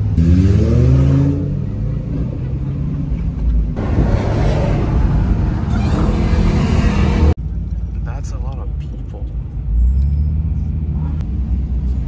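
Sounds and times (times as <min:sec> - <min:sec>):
road noise inside car: 0:00.0 - 0:12.0.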